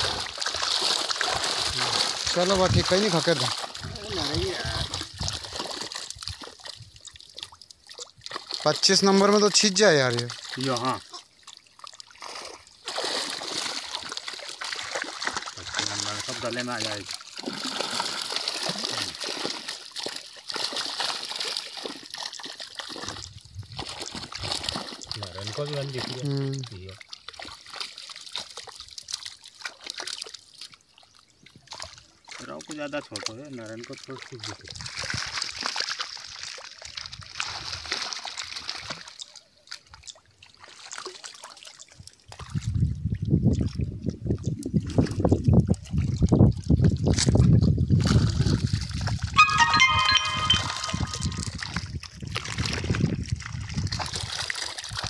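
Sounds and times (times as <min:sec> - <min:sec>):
fish splashing in a net: 0:00.0 - 0:42.8, 0:44.8 - 0:55.0.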